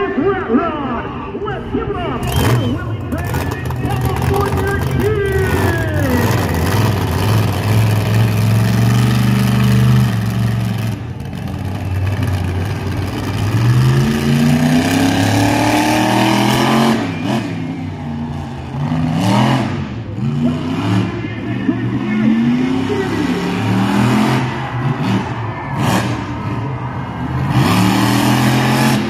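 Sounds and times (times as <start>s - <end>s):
monster truck engine revving: 2.2s - 29.0s.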